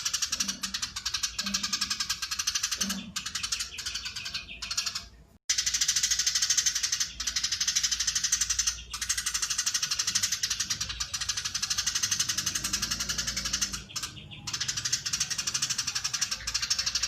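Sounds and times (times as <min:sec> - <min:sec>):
sparrow chattering: 0:00.0 - 0:17.0.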